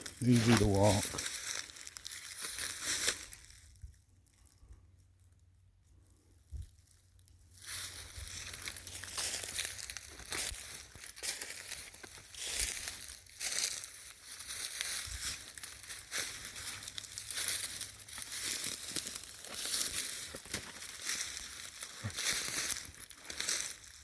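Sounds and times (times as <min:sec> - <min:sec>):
footsteps crunching through leaves: 0:00.0 - 0:03.7, 0:07.5 - 0:24.0.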